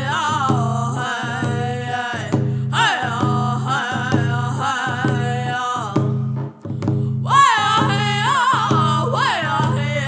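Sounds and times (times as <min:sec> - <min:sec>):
boys singing together: 0:00.0 - 0:06.0, 0:07.2 - 0:10.0
hand drums beating: 0:00.0 - 0:10.0.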